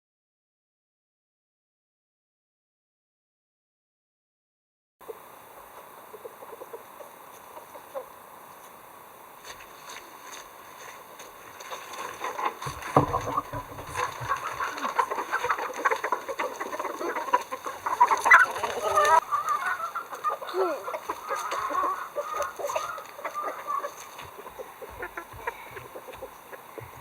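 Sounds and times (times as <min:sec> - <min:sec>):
chickens clucking: 0:05.0 - 0:27.0.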